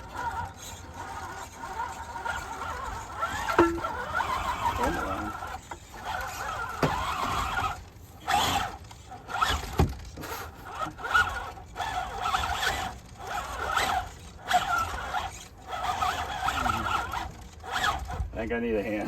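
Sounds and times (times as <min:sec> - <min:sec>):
electric motor and gears whining: 0:00.0 - 0:19.0.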